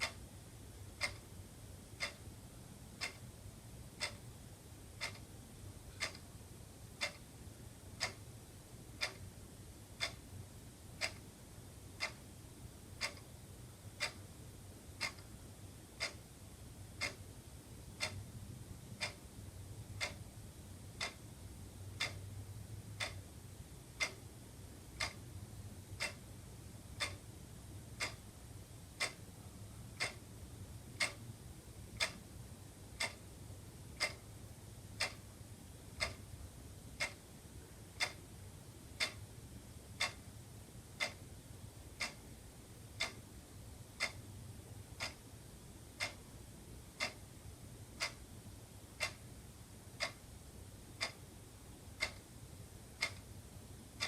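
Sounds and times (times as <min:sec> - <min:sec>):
wall clock ticking: 0:00.0 - 0:54.0.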